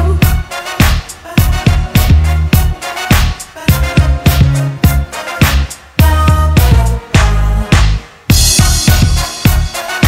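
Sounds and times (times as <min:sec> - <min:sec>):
bass line: 0:00.0 - 0:09.9
synth funk music: 0:00.0 - 0:10.0.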